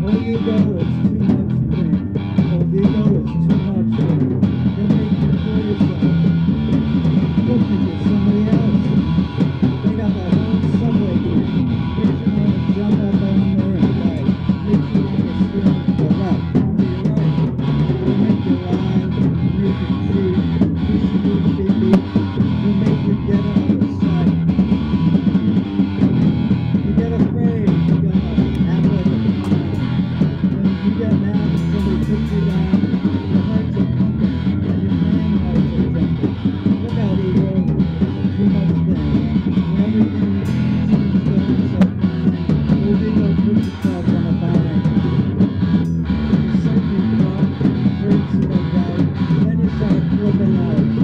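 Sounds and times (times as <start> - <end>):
drum kit: 0.0 - 51.0
electric guitar: 0.0 - 51.0.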